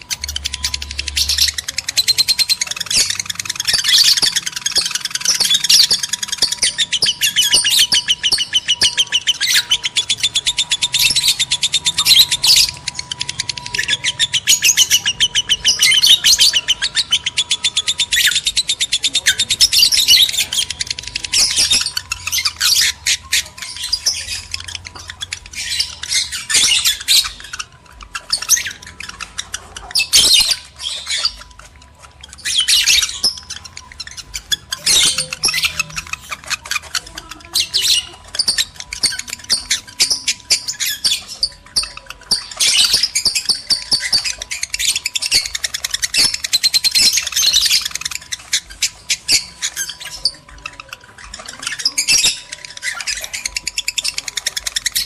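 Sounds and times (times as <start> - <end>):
lovebirds chattering and screeching: 0.0 - 55.0.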